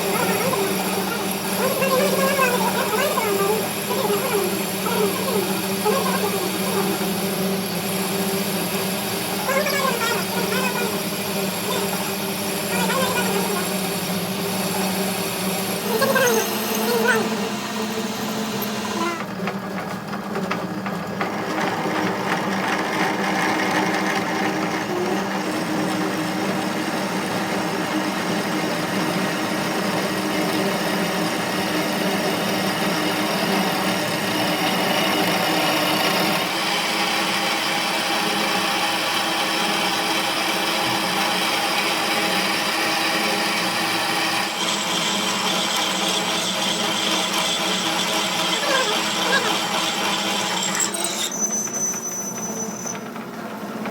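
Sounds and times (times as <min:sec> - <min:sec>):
power tool running: 0:00.0 - 0:53.7.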